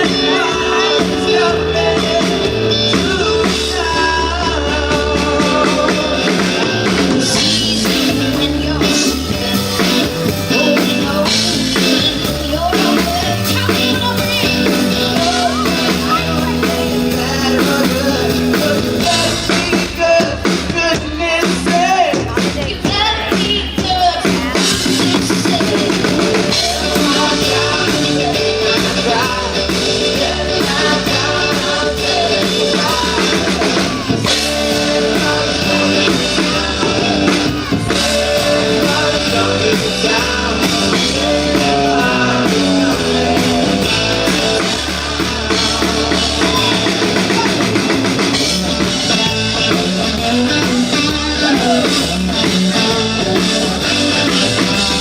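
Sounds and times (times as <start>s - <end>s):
drum kit: 0.0s - 55.0s
electric guitar: 0.0s - 55.0s
person singing: 0.0s - 55.0s.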